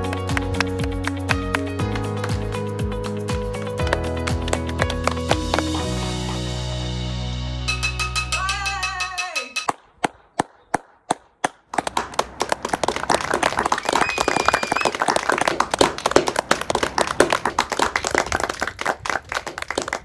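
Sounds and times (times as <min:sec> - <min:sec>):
crowd clapping: 0:00.0 - 0:05.9, 0:09.7 - 0:20.0.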